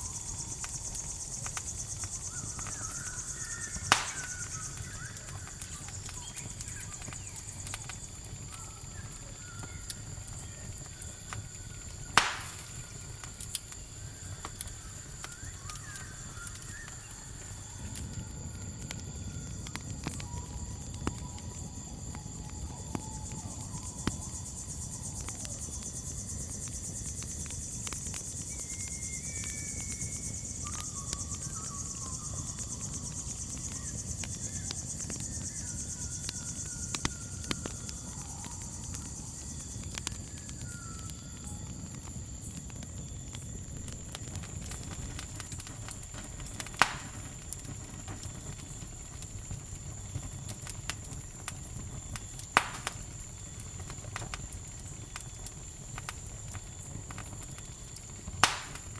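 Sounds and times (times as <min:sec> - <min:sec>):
faint whistled calls: 0:00.0 - 0:42.1, 0:44.2 - 0:51.5, 0:52.1 - 0:58.9
campfire crackling: 0:00.0 - 0:58.9
crickets trilling: 0:00.0 - 0:58.9
fire popping: 0:00.0 - 0:58.9.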